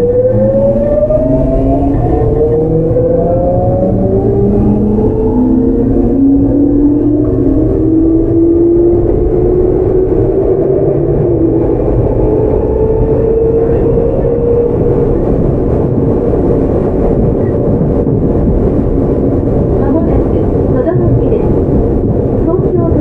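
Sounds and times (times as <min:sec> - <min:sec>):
electric train inverter whining: 0:00.0 - 0:23.0
wheels rumbling on rail: 0:00.0 - 0:23.0.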